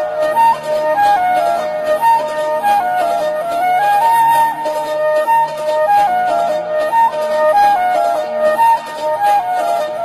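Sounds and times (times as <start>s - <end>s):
flute-like melody: 0.0s - 10.0s.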